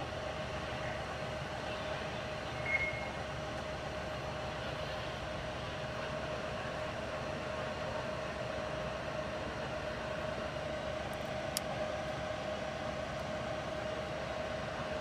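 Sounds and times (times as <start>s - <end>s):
fire engines idling: 0.0s - 15.0s.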